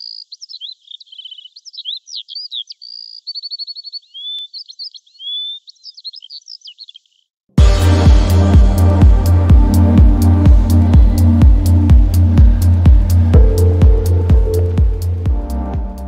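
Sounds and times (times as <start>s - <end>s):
songbird singing: 0.0s - 7.4s, 9.6s - 16.0s.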